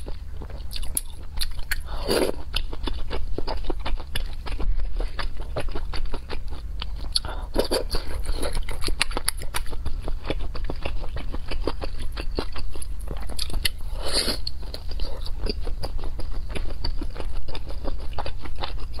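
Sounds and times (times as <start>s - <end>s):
wet mouth chewing clicks: 0.4s - 19.0s.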